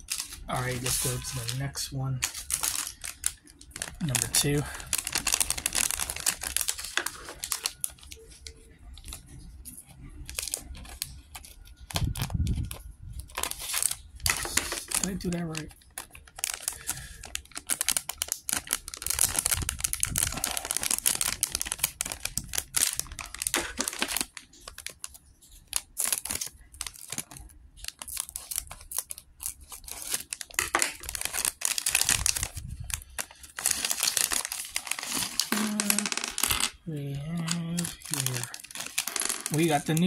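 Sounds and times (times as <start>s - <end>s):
plastic bag tearing and crinkling: 0.0s - 8.3s, 10.1s - 36.6s, 37.2s - 40.0s.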